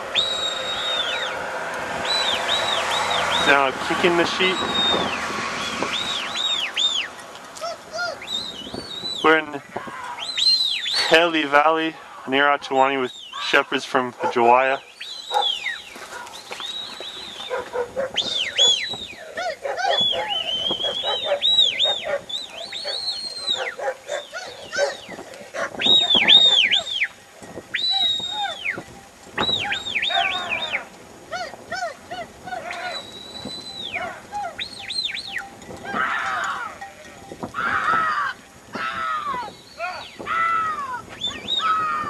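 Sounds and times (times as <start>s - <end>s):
birds chirping: 0.0s - 31.0s, 32.7s - 40.5s, 41.1s - 42.0s.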